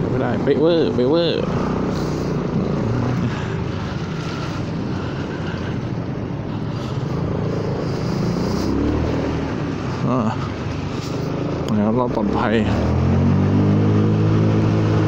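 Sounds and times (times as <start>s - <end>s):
wind and road noise hiss: 0.0s - 15.0s.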